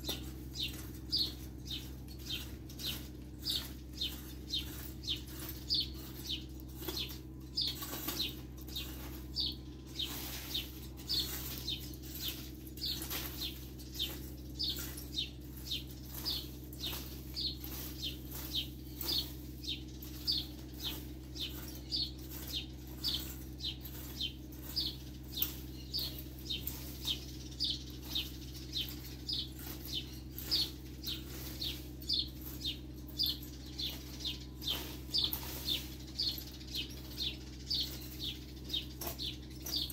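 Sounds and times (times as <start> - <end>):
rake scraping dry dirt: 0.0 - 39.9.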